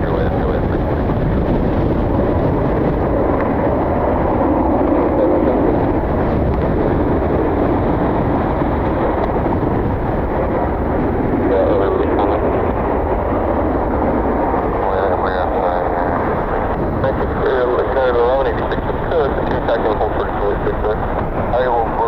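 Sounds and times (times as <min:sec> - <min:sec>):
jet engines rumbling: 0:00.0 - 0:22.0
wind buffeting microphone: 0:00.0 - 0:22.0.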